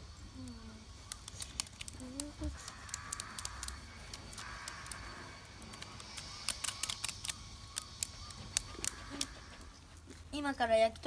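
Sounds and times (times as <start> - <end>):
campfire crackling and popping: 0.4 - 9.4.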